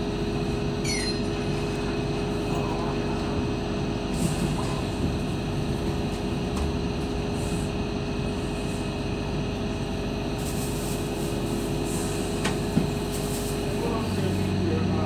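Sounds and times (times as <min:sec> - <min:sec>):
constant hum: 0:00.0 - 0:15.0
train running noise: 0:00.0 - 0:15.0.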